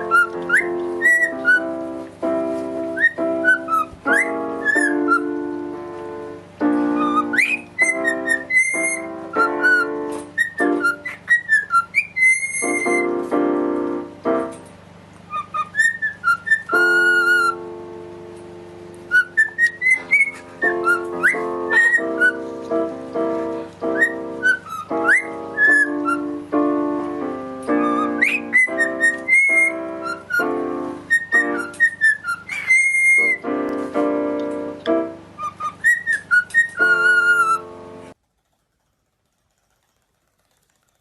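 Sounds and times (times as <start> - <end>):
whistled melody: 0.0 - 14.6, 15.3 - 17.9, 18.9 - 38.2.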